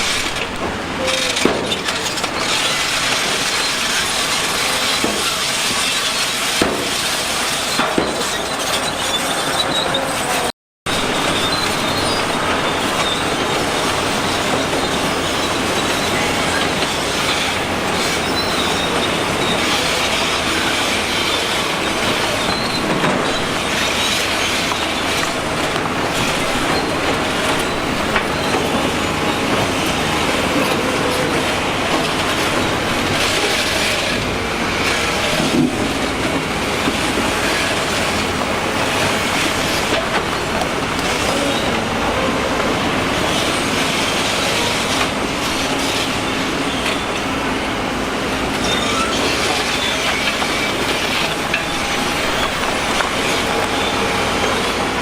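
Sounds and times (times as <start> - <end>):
heavy construction machinery running: 0.0 - 55.0
metallic squealing and clanking: 0.0 - 55.0.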